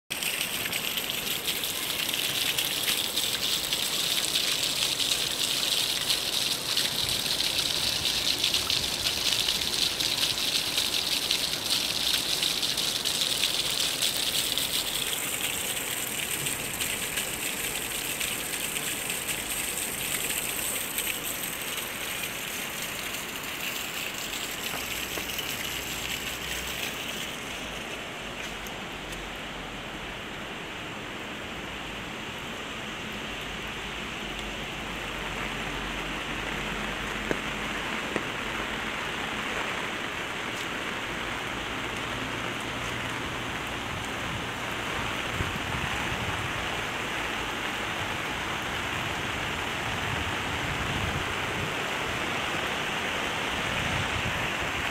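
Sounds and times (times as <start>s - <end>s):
rainwater splashing onto paving: 0.1s - 29.4s, 33.4s - 54.9s.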